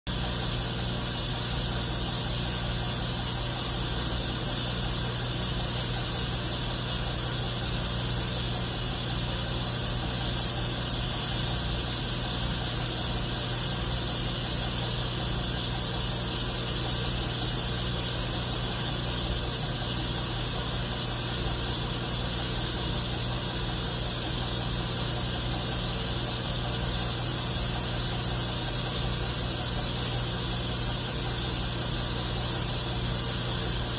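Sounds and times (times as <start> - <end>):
blade and coolant hiss: 0.1 - 33.9.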